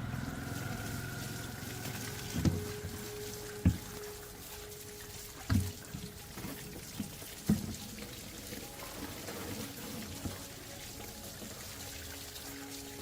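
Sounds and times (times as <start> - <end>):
liquid pouring and trickling: 0.0 - 13.0.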